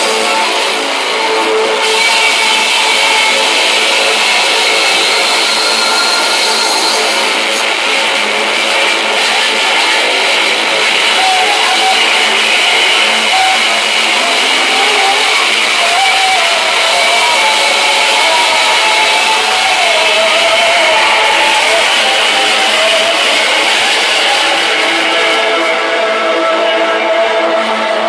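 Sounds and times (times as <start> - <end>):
distorted rock music over pa: 0.0 - 28.0.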